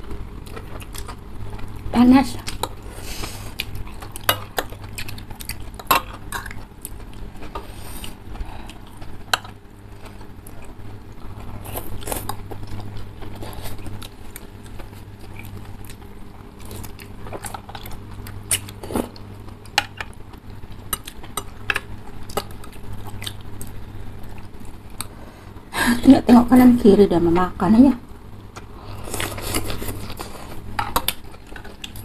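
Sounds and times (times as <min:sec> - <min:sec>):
steady low hum: 0:00.0 - 0:32.0
chewing: 0:00.1 - 0:25.2, 0:28.5 - 0:32.0.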